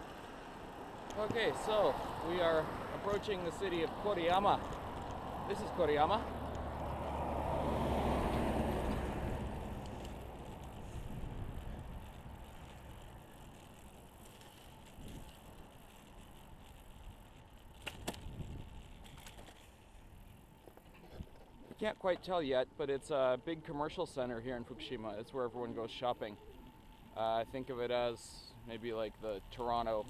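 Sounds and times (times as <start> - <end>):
bicycle tyre and wind noise: 0.0 - 22.4, 23.0 - 30.0.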